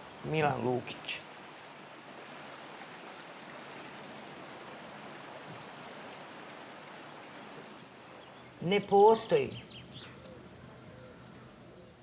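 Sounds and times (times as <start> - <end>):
river water rushing: 0.0 - 11.7.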